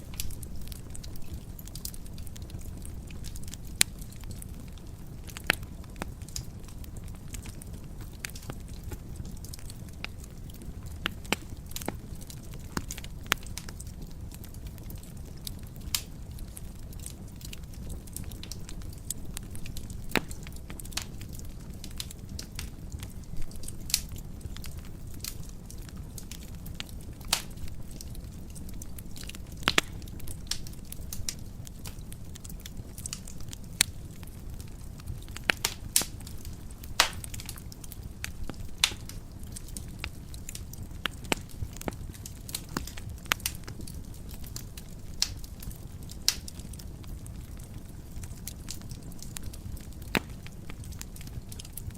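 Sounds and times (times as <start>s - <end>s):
fire crackling and popping: 0.0s - 51.9s.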